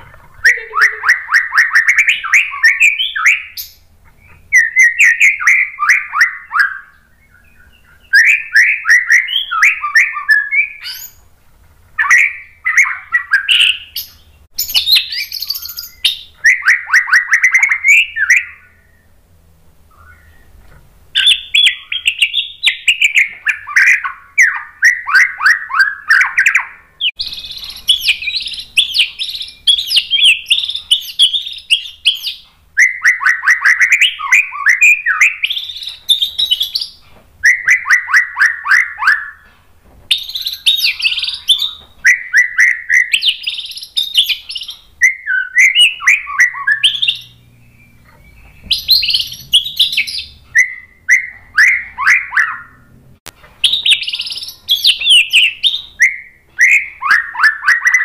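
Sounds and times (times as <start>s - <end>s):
bird singing: 0.0s - 11.3s, 12.0s - 19.2s, 19.9s - 52.9s, 53.6s - 58.0s.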